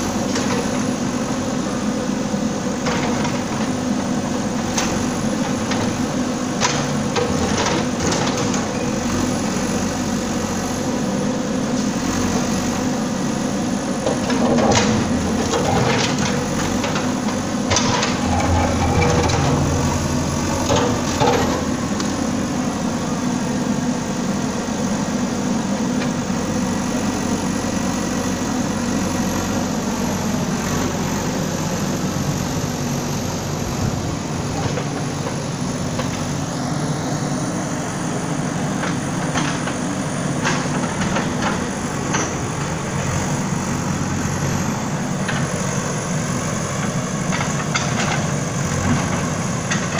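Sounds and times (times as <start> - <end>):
bulldozer diesel engine running: 0.0 - 49.9.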